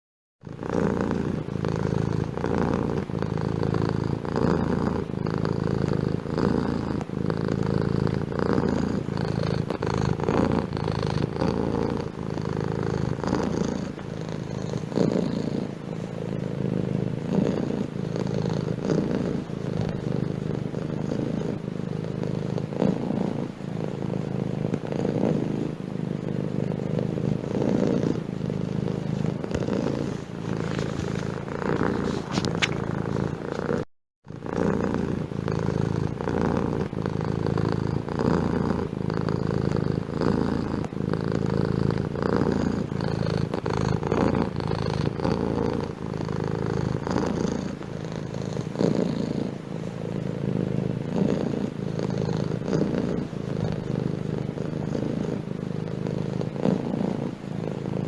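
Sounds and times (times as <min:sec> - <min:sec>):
cat purring: 0:00.4 - 0:58.0.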